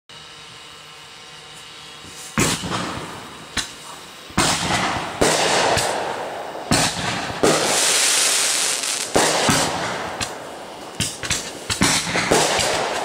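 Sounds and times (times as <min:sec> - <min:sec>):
fireworks bursting with hiss: 0:01.7 - 0:13.0.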